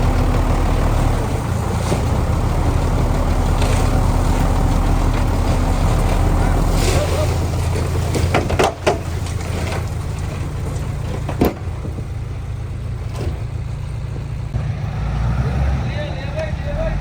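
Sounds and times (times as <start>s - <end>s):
diesel engine of heavy machinery: 0.0s - 17.0s.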